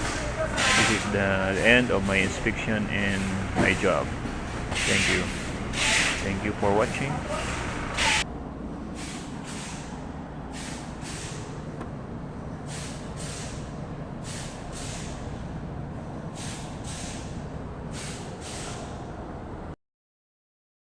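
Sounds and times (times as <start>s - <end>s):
air conditioner humming: 0.0s - 19.8s.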